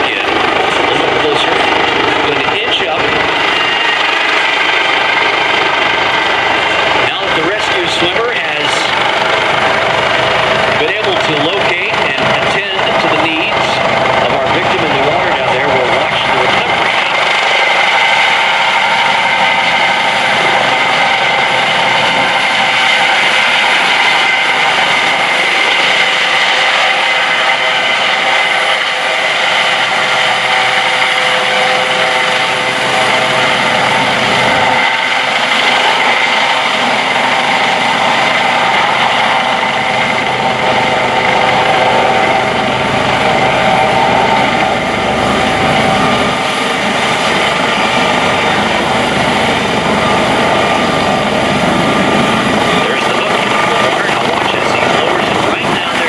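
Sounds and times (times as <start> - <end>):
helicopter rotor noise: 0.0 - 56.0
high whine: 0.0 - 56.0.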